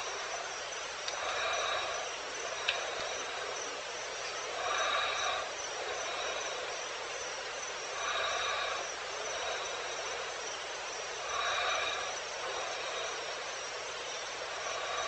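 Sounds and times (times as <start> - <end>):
insects hissing: 0.0 - 15.0.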